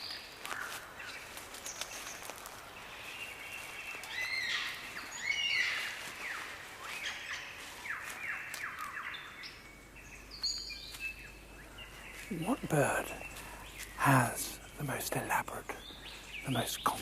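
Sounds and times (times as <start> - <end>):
birds whistling and singing: 0.0 - 17.0.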